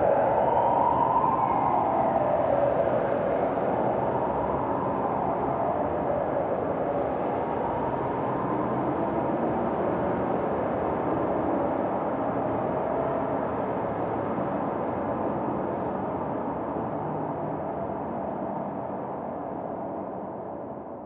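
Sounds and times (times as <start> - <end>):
city traffic noise: 0.0 - 21.0.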